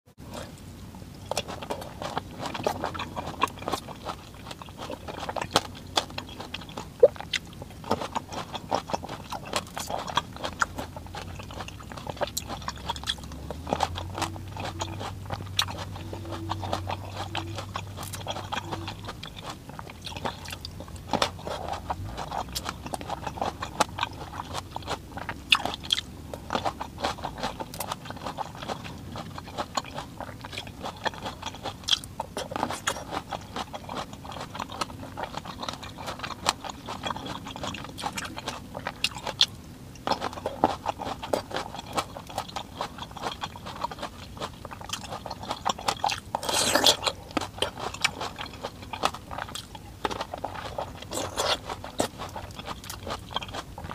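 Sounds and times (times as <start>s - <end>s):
crunchy grapes being chewed: 0.2s - 53.9s.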